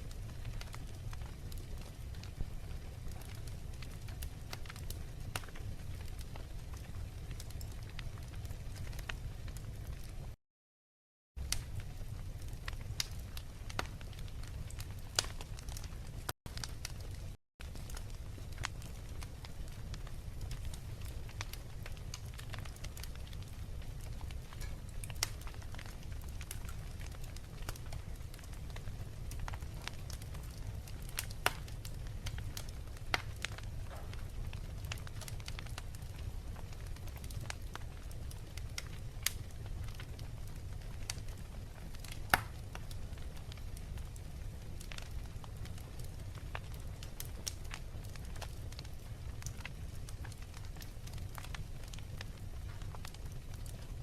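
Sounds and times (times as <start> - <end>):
wood fire crackling: 0.0 - 10.4, 11.4 - 54.0.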